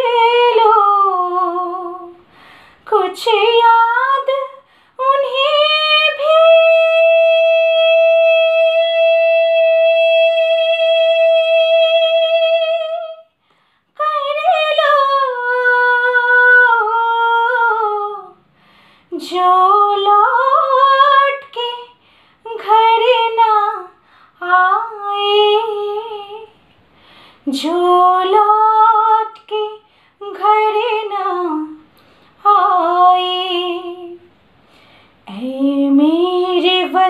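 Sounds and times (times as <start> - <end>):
woman singing: 0.0 - 13.3, 13.9 - 18.4, 19.1 - 26.6, 27.4 - 34.3, 35.3 - 37.0.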